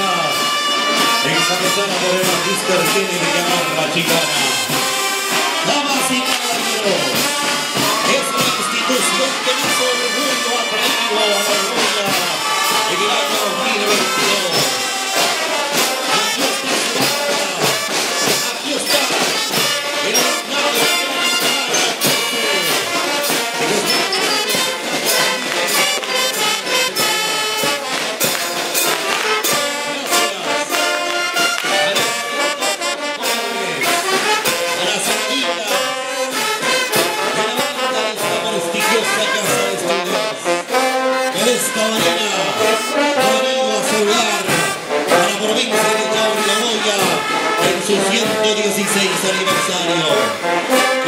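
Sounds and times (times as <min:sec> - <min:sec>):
brass band playing: 0:00.0 - 0:51.0
drum strokes: 0:00.0 - 0:51.0.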